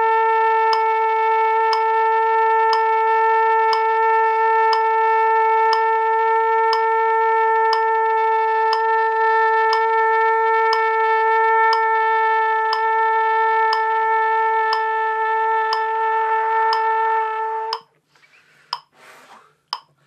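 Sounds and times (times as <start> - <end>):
trumpet long note: 0.0 - 17.8.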